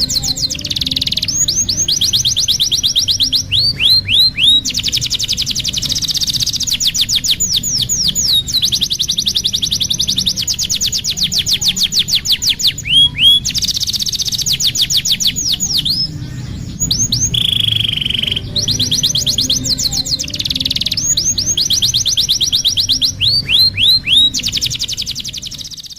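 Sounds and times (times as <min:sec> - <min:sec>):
canary singing trilled song: 0:00.0 - 0:25.9.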